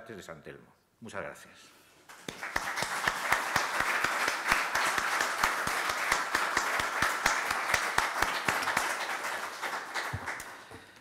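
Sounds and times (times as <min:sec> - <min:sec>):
audience applause: 0:02.1 - 0:11.0.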